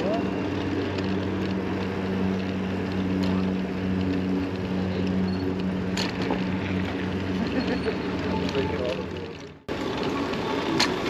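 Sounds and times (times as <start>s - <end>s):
electric bike motor hum: 0.0s - 11.0s.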